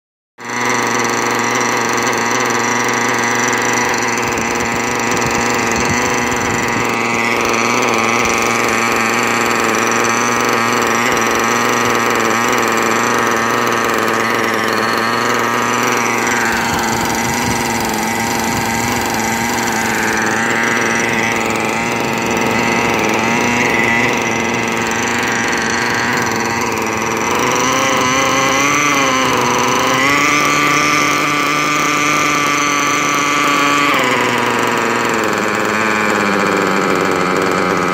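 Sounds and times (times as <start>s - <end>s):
two-stroke model engine running: 0.4s - 37.9s.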